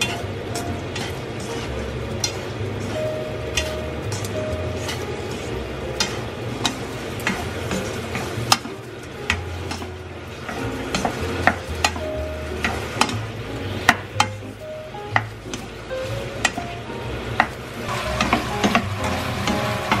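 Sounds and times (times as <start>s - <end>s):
wooden utensils knocking on a pan: 0.0s - 14.5s, 15.1s - 20.0s
chicken sizzling in sauce: 0.0s - 20.0s.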